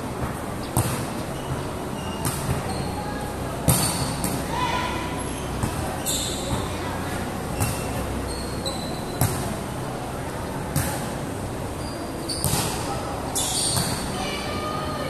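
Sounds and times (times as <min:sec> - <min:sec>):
people chattering: 0:00.0 - 0:15.0.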